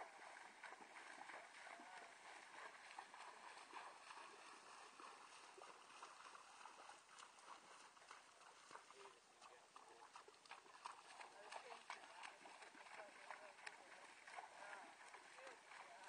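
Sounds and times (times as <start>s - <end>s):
hoof sounds: 0.0s - 16.0s
horse splashing through water: 0.0s - 16.0s.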